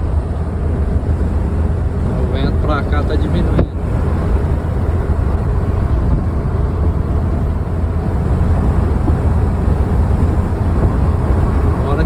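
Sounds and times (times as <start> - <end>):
strong wind: 0.0 - 12.0
vehicle driving on road: 0.0 - 12.0.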